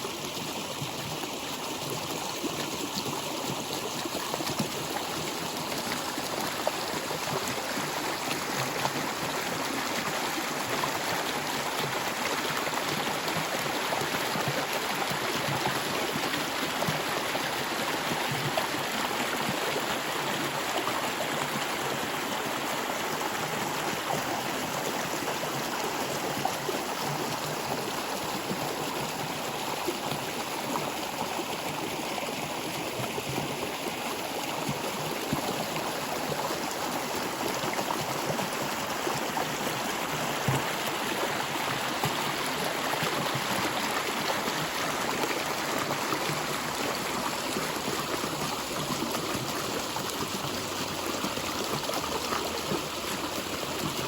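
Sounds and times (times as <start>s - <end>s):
stream of water flowing: 0.0s - 54.0s.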